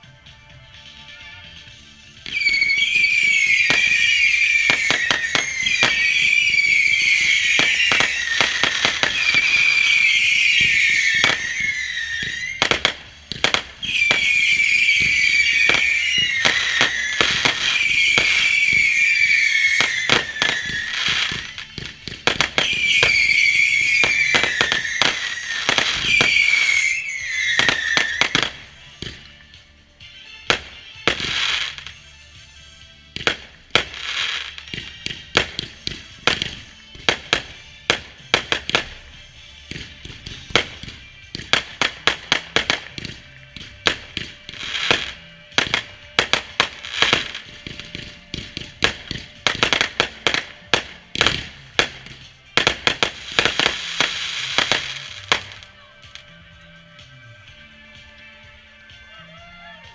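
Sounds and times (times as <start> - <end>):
fireworks crackling pops and bangs: 0.0 - 59.9
whistling fireworks: 0.8 - 59.9.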